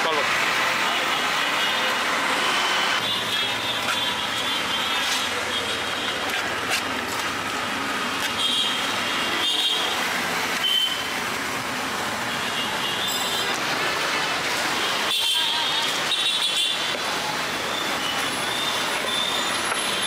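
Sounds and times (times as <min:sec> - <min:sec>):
busy street traffic: 0:00.0 - 0:20.0.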